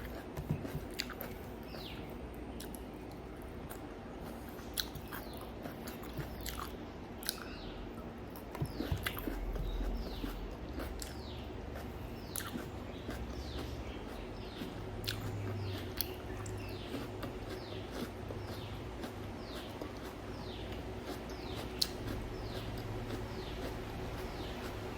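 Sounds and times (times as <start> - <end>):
chewing and crunching food: 0.0 - 24.9.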